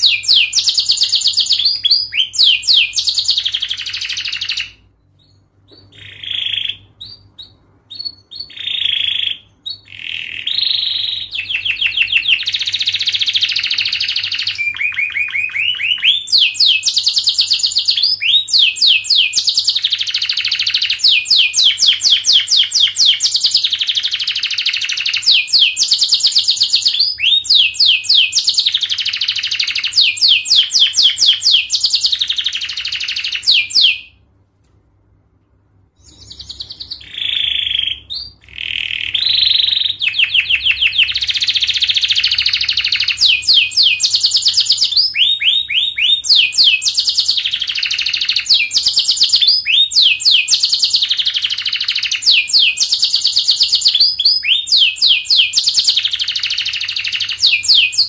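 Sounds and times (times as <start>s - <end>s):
canary singing trills: 0.0s - 34.2s, 36.0s - 58.0s.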